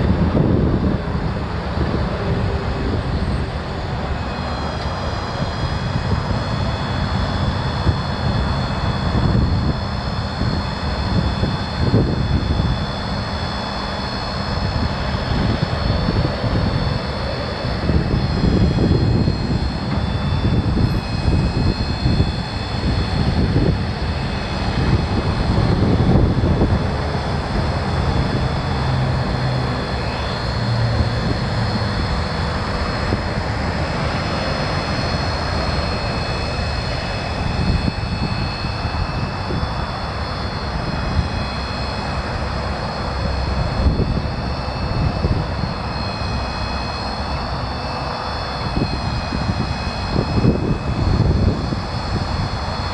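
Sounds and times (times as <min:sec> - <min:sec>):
constant high whine: 0:00.0 - 0:52.9
diesel engine rumble: 0:00.0 - 0:52.9.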